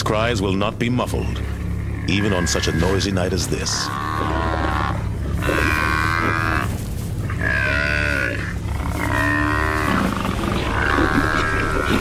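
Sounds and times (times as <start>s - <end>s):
low rumble: 0.0s - 12.0s
buffalo bellowing: 1.1s - 12.0s.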